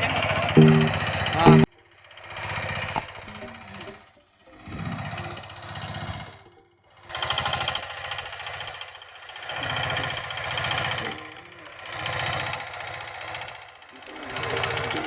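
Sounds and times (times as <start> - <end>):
small tractor engine running: 0.0 - 15.0.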